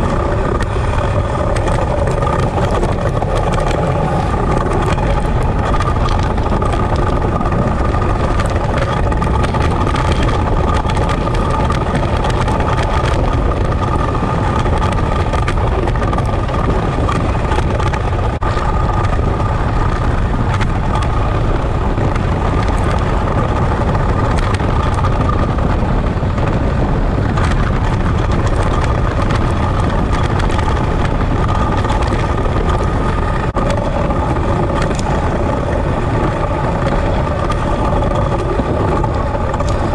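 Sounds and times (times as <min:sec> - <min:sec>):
ice boat runners rushing over ice: 0:00.0 - 0:39.9
wind noise: 0:00.0 - 0:39.9.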